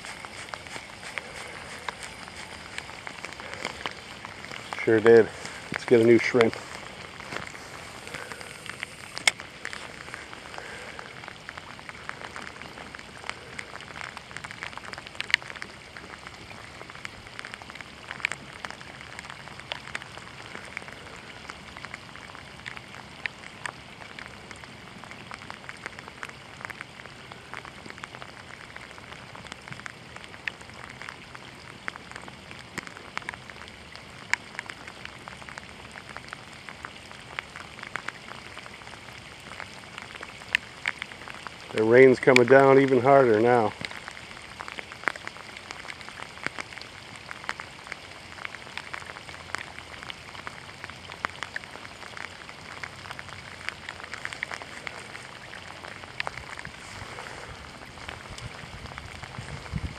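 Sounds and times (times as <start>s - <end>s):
sharp taps of raindrops: 0.0s - 59.9s
steady rain patter: 0.0s - 59.9s.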